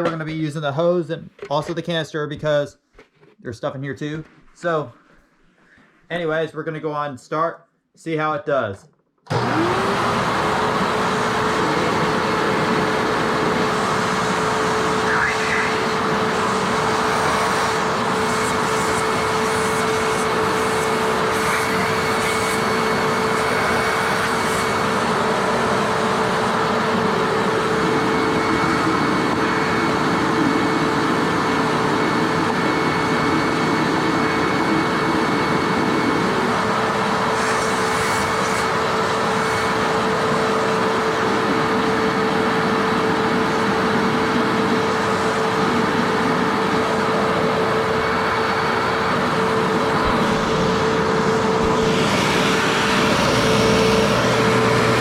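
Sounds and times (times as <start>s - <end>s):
vacuum cleaner motor whine: 9.3s - 55.0s.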